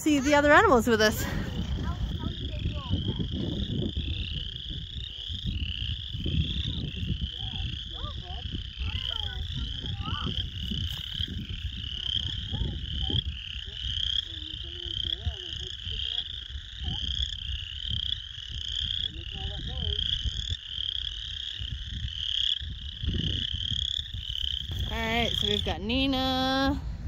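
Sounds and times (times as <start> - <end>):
frogs trilling: 0.0 - 26.8.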